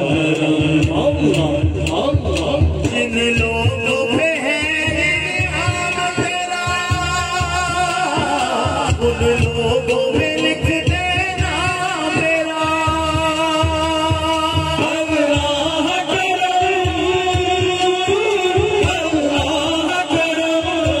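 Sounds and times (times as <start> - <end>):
man singing over loudspeaker: 0.0 - 21.0.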